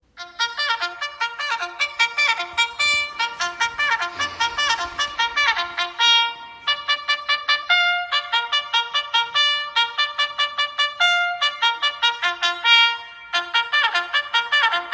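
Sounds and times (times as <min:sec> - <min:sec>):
trumpet playing fast tune: 0:00.1 - 0:14.9.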